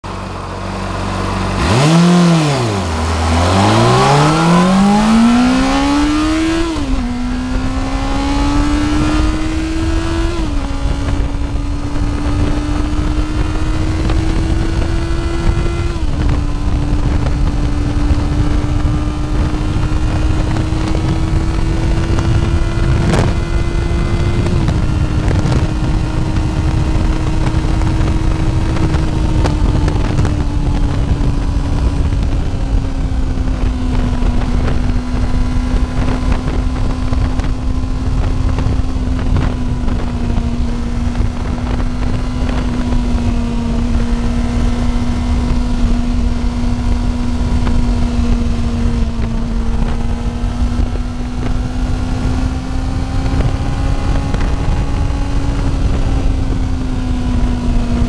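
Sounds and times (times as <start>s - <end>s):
motorcycle engine revving: 0.0s - 58.0s
wind rushing past: 1.2s - 58.0s.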